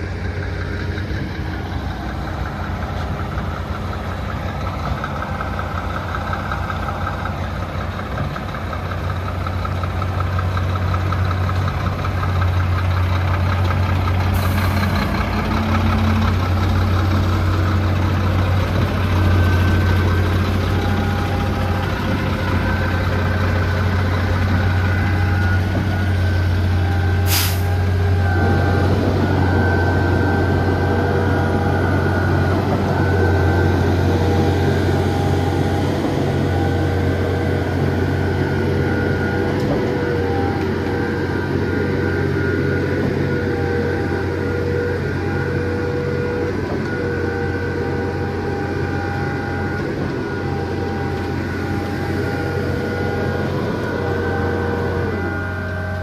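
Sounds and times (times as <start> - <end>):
truck engine humming: 0.0 - 56.0.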